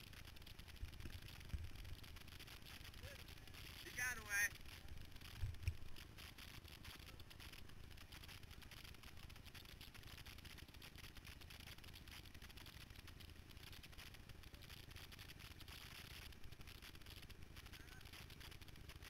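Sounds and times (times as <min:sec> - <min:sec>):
faint hiss: 0:00.0 - 0:19.0
light crackling: 0:00.0 - 0:19.0.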